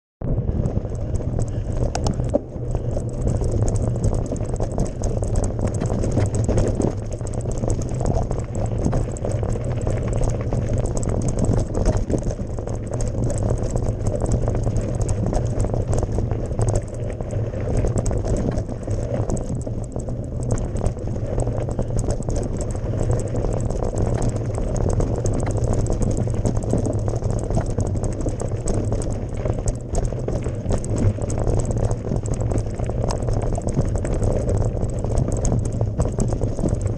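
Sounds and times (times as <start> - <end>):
bike clicks and rattles: 0.3 - 36.9
bike tyres on gravel: 0.3 - 36.9.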